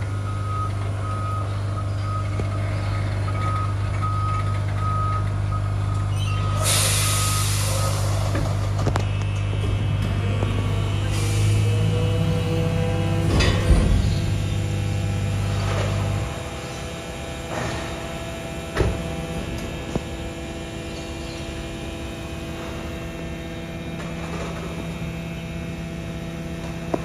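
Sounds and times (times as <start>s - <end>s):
electric truck hum: 0.0s - 27.0s.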